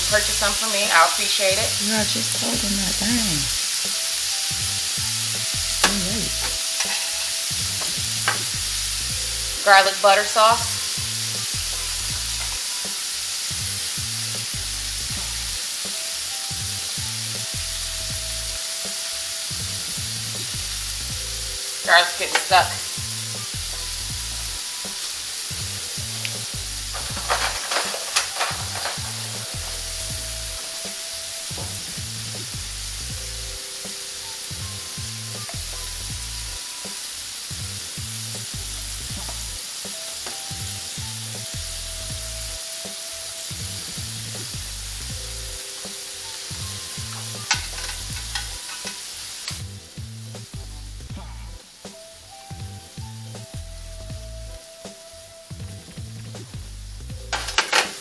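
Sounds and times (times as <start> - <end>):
meat sizzling on a griddle: 0.0 - 58.0.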